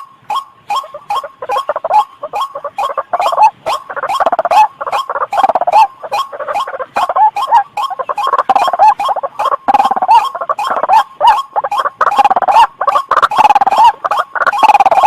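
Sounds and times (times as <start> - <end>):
bird calling harsh notes: 0.0 - 15.0
bird chatter: 0.0 - 15.0.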